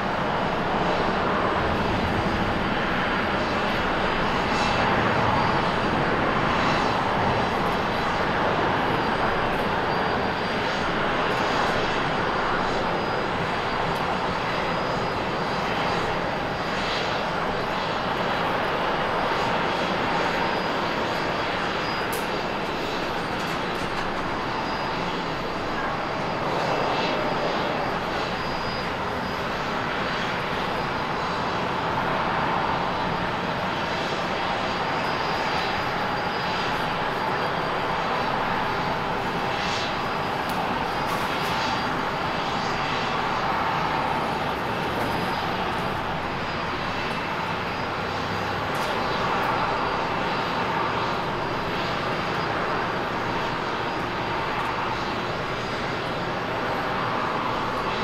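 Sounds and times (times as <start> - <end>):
faint high whine: 0.0 - 58.0
jet engine roar: 0.0 - 58.0.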